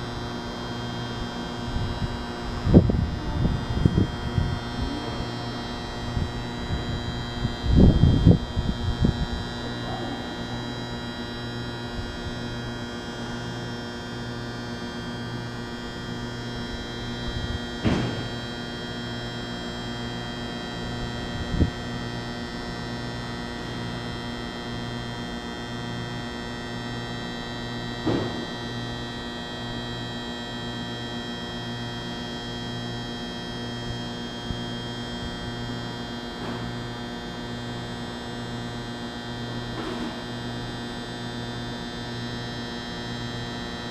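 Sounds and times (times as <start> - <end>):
pulsing electrical hum: 0.0 - 43.9.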